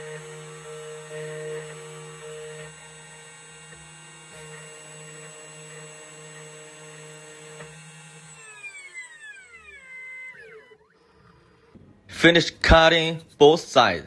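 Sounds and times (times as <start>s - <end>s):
key cutting machine motor whining: 0.0s - 11.8s.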